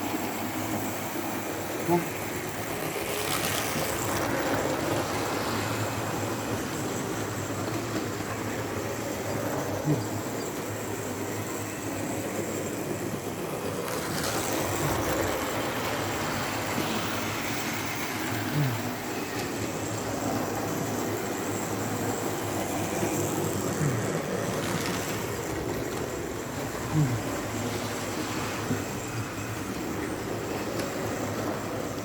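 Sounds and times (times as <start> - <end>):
model train motors and wheels rumbling: 0.0 - 32.0.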